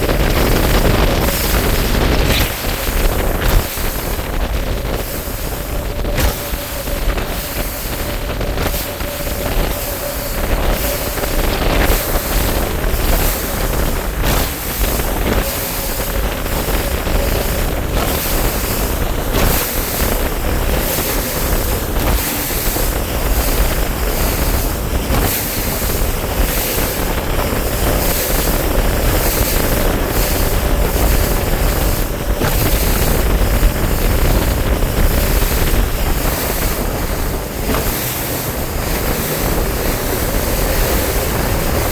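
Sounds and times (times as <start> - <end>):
water slaps: 0.0 - 41.9
water splashing against boat hull: 0.0 - 41.9
wind buffeting microphone: 0.0 - 41.9.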